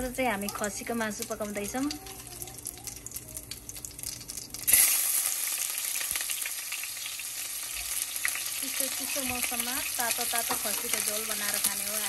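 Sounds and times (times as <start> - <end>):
onions sizzling in oil: 0.0 - 12.0
seeds crackling in hot oil: 0.0 - 12.0.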